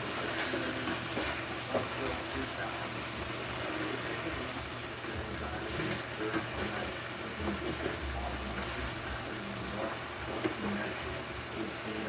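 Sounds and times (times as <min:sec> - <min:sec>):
patties sizzling in a frying pan: 0:00.0 - 0:12.0.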